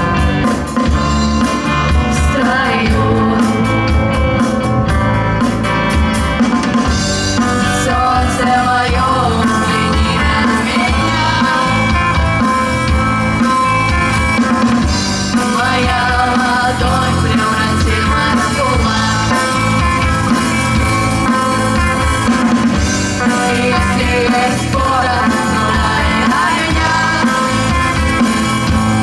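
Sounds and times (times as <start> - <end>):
drum kit: 0.0 - 29.0
rock band playing live: 0.0 - 29.0.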